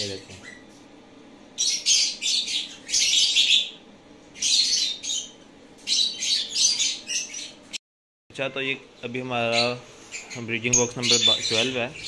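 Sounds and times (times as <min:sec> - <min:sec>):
birds chirping and squawking: 0:00.0 - 0:07.8, 0:09.1 - 0:12.0.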